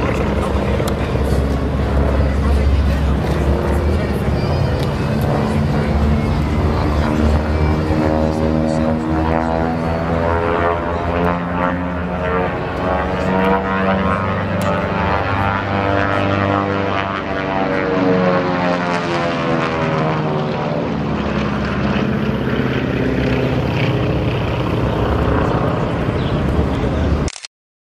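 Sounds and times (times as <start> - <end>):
propeller plane engines droning: 0.0 - 27.5.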